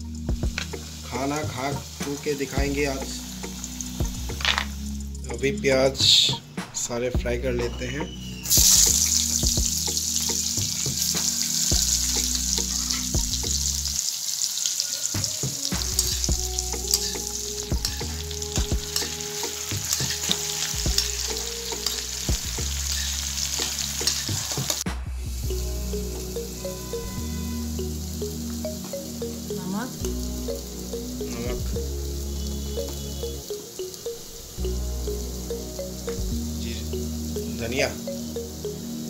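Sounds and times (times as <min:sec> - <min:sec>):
onions sizzling in hot oil: 0:00.0 - 0:05.3, 0:08.4 - 0:39.0.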